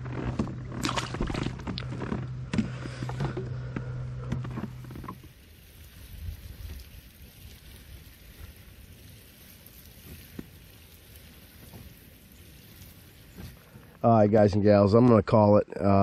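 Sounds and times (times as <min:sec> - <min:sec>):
faint wind: 0:00.0 - 0:16.0
low steady hum: 0:00.0 - 0:16.0
water noise: 0:00.0 - 0:16.0.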